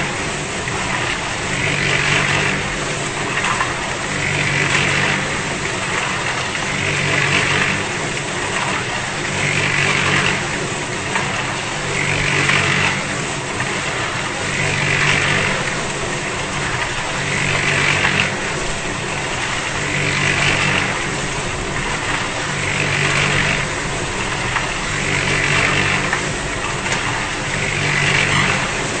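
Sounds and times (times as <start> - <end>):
concrete mixer drum turning: 0.0 - 29.0.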